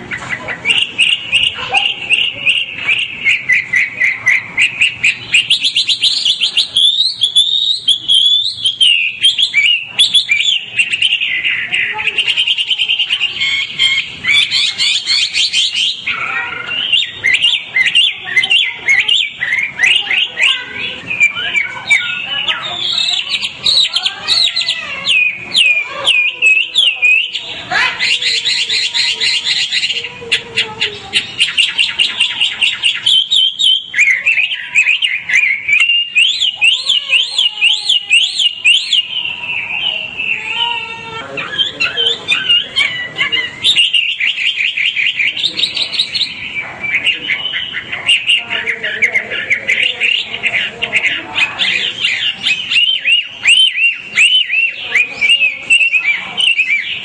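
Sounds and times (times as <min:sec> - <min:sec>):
bird singing whistles and trills: 0:00.0 - 0:40.6, 0:41.3 - 0:57.0.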